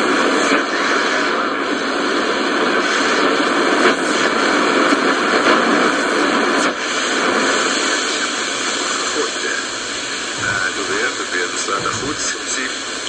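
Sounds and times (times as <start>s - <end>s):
radio static hissing: 0.0s - 13.0s.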